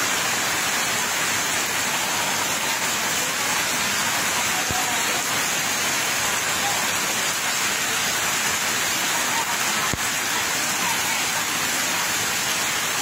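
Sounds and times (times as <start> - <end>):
rain falling on concrete: 0.0 - 13.0.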